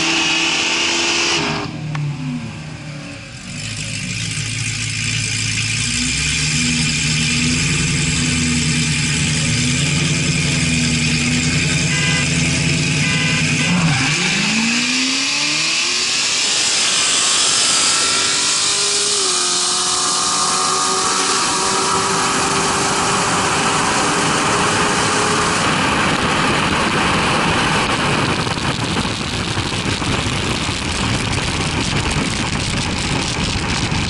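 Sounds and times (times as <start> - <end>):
car engine accelerating: 0.0 - 34.0
wind and road noise: 0.0 - 34.0.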